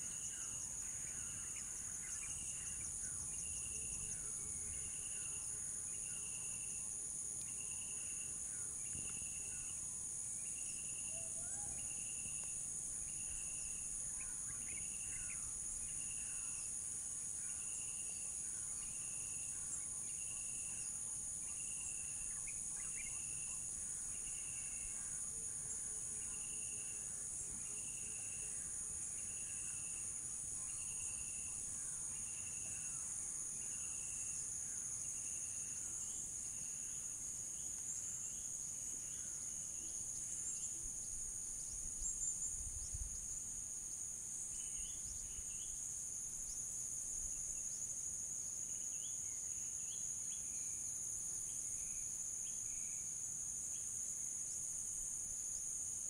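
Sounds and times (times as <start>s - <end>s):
crickets and cicadas droning: 0.0s - 56.0s.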